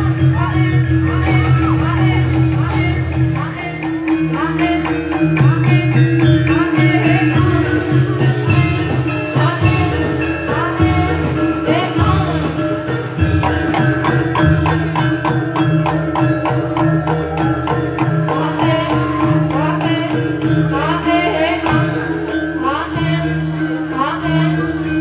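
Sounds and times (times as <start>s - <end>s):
hand drums fast rhythm: 0.0s - 22.0s.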